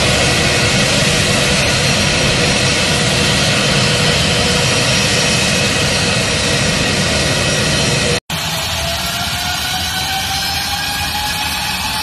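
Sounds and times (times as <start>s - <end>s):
jet engines at taxi power: 0.0s - 12.0s.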